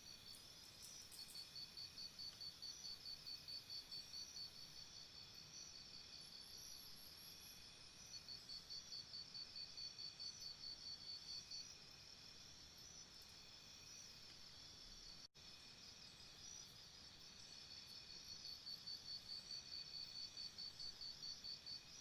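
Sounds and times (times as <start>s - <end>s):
cricket chirping: 0.0s - 22.0s
faint crickets chirping: 0.0s - 22.0s.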